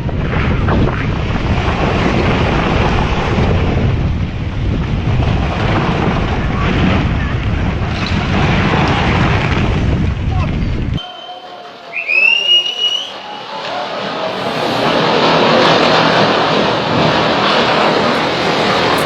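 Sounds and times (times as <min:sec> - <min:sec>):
strong wind buffeting microphone: 0:00.0 - 0:11.0, 0:14.2 - 0:19.0.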